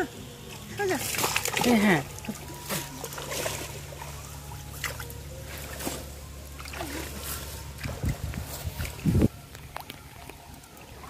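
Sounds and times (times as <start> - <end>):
low steady rumble: 0.0 - 11.0
water sloshing and trickling: 0.0 - 11.0.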